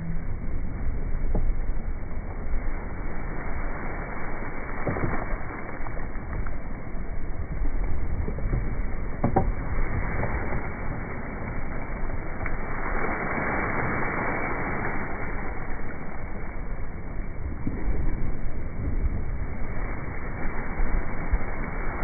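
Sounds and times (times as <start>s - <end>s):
water rushing past a hull: 0.0s - 22.0s
wind buffeting microphone: 0.0s - 22.0s.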